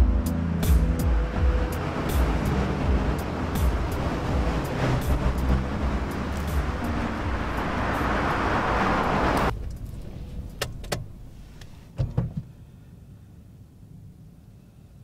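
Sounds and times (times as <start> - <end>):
traffic and tyres hissing: 0.3 - 15.0.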